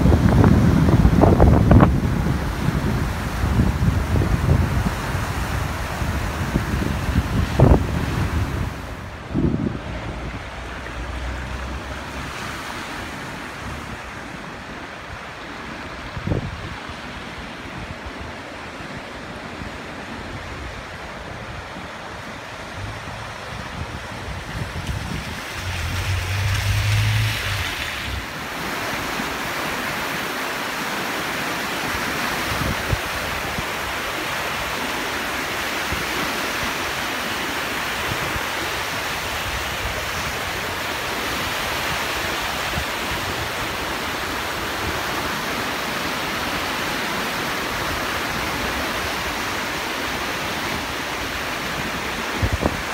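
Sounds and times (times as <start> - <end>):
wind buffeting microphone: 0.0 - 30.2, 31.8 - 49.7, 50.8 - 52.9
floodwater rushing: 0.0 - 52.9.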